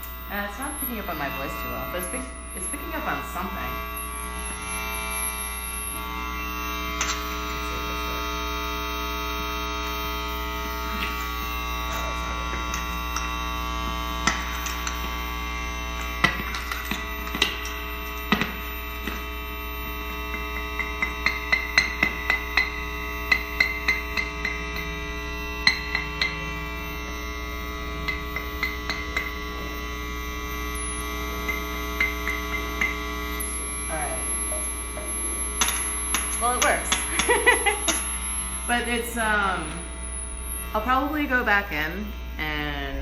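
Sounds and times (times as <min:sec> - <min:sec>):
electrical hum and buzz: 0:00.0 - 0:43.0.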